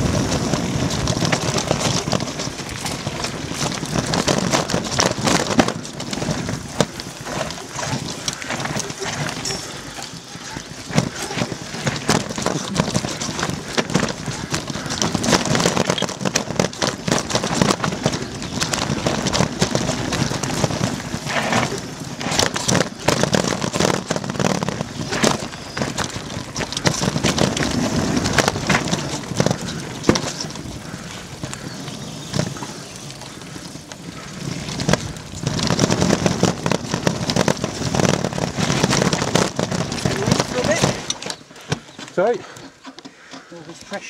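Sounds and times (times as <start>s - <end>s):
tyre and wind rush: 0.0s - 42.7s
bike knocking over bumps: 0.0s - 43.6s
bike rattling: 0.0s - 44.0s.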